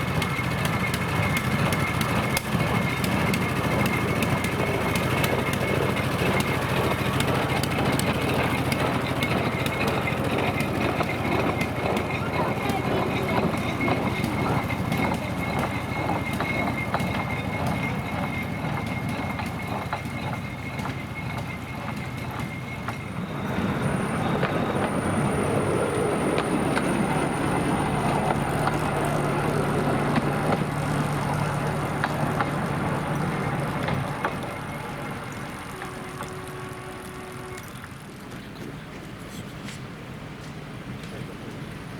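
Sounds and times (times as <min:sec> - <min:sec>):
train running with clicks and rattles: 0:00.0 - 0:41.9.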